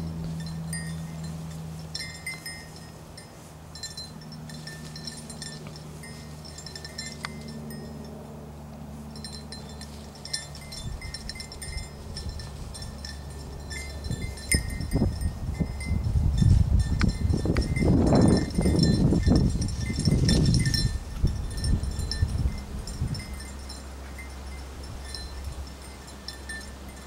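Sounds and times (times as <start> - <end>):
rustling through grass: 0.0 - 27.0
dog bell jingling: 0.1 - 8.2, 9.0 - 27.0.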